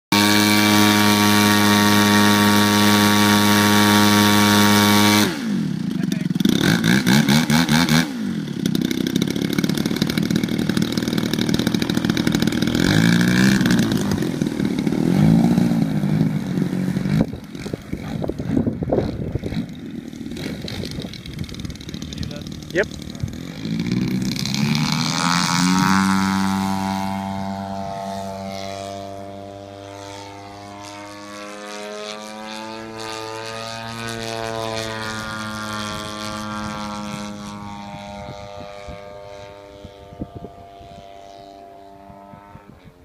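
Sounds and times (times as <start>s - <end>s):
engine throttle blips: 0.1s - 43.0s
model plane engine running: 0.1s - 43.0s.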